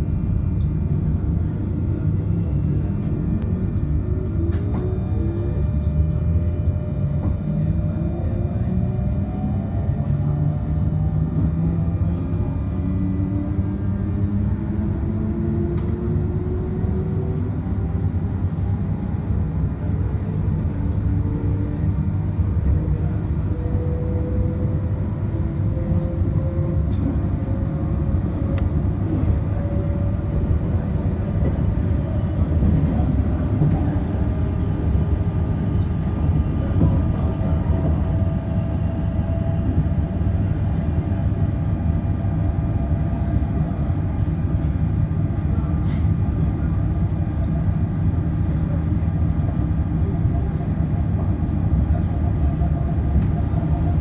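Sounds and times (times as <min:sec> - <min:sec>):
electric traction whine: 0:00.0 - 0:45.3
train running gear rumble: 0:00.0 - 0:54.0.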